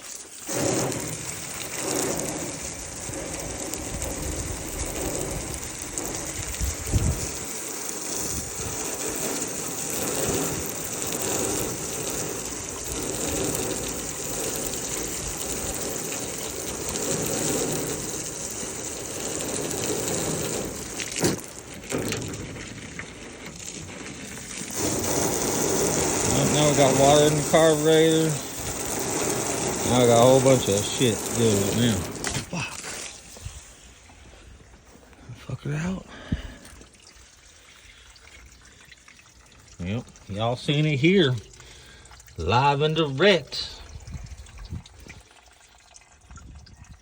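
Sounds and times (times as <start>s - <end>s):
hose spraying water: 0.0s - 46.4s.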